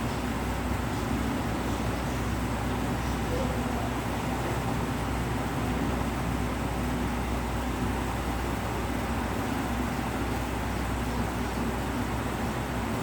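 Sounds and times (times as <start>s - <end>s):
outdoor noise hiss: 0.0s - 13.0s.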